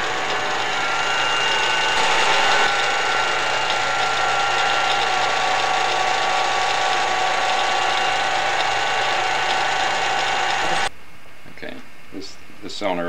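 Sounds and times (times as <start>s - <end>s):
lathe cutting hiss: 0.0s - 10.9s
metal lathe machine whine: 0.0s - 10.9s.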